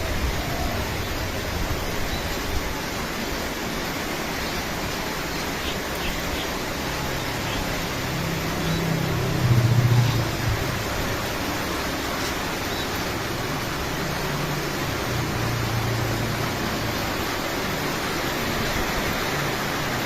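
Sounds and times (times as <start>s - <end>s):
rain hissing: 0.0s - 20.0s.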